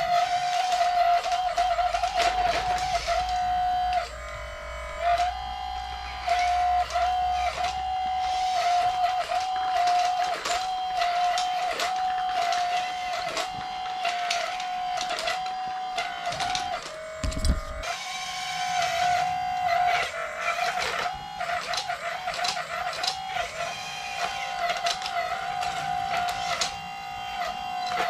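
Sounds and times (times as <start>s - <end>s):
small electric motor whining: 0.0s - 28.0s.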